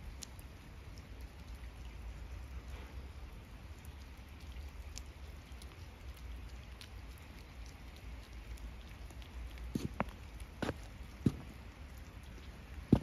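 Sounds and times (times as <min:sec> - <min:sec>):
rain pattering on paving stones: 0:00.0 - 0:13.0.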